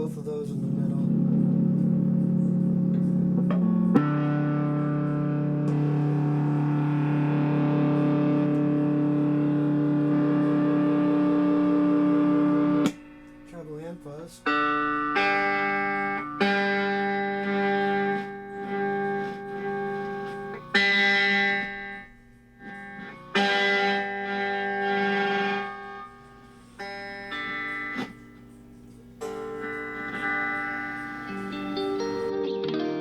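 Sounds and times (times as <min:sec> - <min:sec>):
fuzz electric guitar chords: 0:00.0 - 0:33.0.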